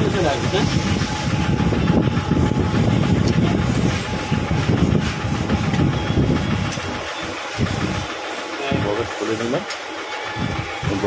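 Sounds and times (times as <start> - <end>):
rattling mechanical rumble: 0.0 - 11.0.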